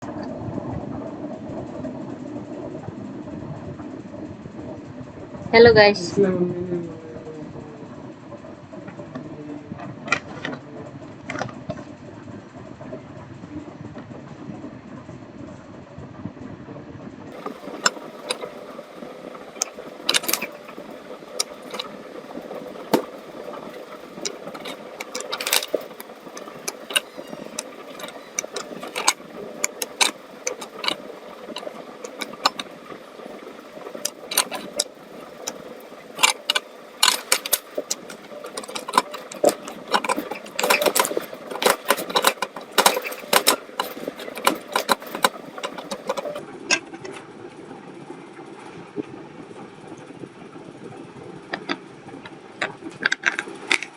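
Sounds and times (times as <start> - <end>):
steady low hum: 0.0 - 53.8.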